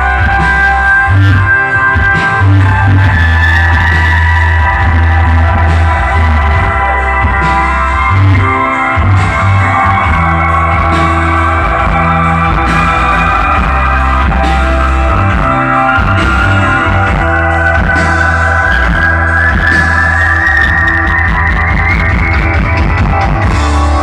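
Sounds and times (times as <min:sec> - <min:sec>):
bass notes: 0:00.0 - 0:24.0
drums: 0:00.0 - 0:24.0
electric guitar: 0:00.0 - 0:24.0.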